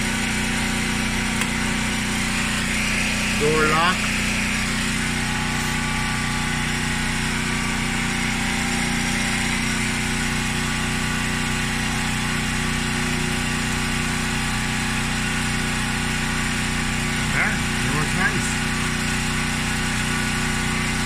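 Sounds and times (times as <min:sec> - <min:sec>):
portable generator engine running: 0:00.0 - 0:21.0.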